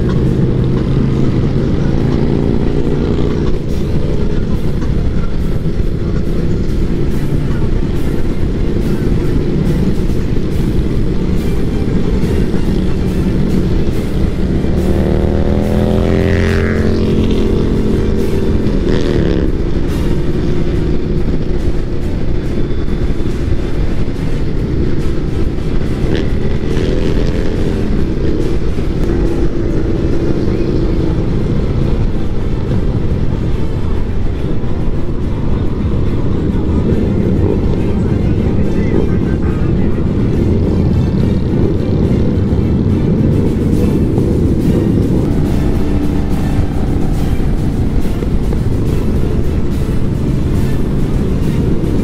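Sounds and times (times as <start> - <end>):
motorcycle engines revving: 0.0 - 52.0
wind rush: 0.0 - 52.0.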